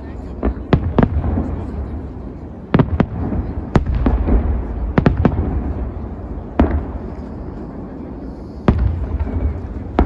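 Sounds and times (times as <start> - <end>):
low rumble of fireworks: 0.0 - 10.0.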